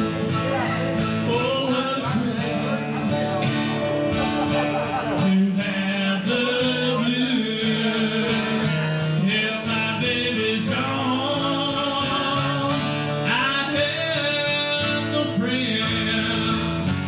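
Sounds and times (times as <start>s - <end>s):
people singing: 0.0s - 16.8s
strummed acoustic guitar: 0.0s - 17.0s
sustained instrumental backing: 0.0s - 17.0s.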